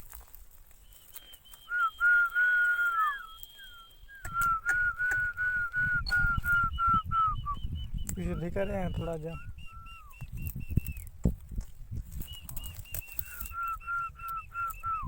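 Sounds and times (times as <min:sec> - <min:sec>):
person whistling: 0:00.8 - 0:11.1, 0:12.1 - 0:15.0.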